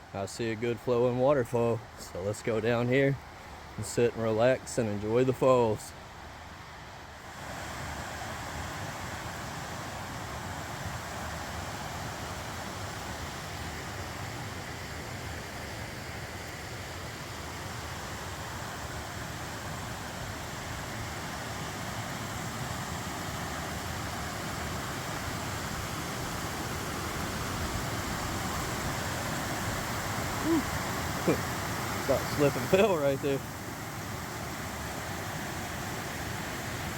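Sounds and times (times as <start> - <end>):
waterfall rushing: 7.2 - 36.9.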